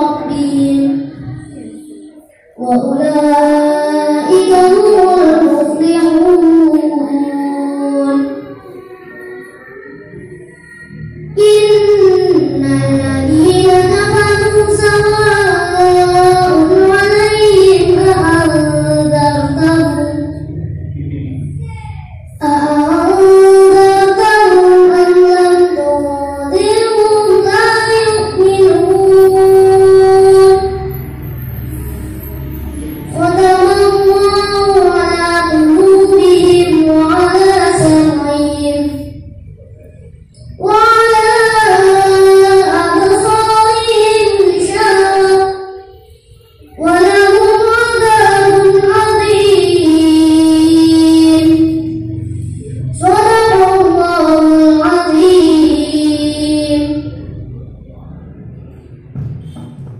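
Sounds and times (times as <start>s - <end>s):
boy chanting through loudspeaker: 0.0s - 59.9s.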